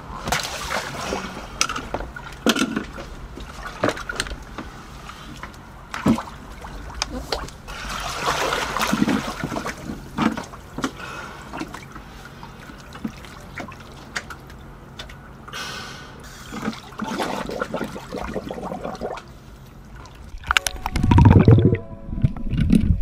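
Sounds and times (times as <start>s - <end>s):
water sloshing and splashing: 0.0s - 15.6s, 16.4s - 21.9s.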